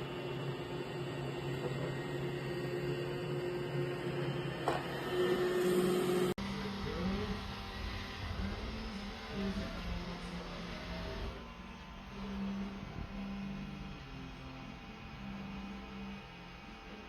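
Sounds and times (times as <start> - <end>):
different low hum: 0.0 - 17.0
machine hum with high tone: 0.0 - 17.0.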